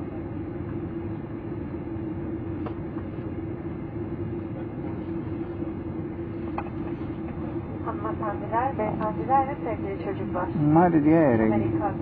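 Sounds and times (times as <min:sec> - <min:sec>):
airliner cabin engine hum: 0:00.0 - 0:12.0
cabin air droning: 0:00.0 - 0:12.0.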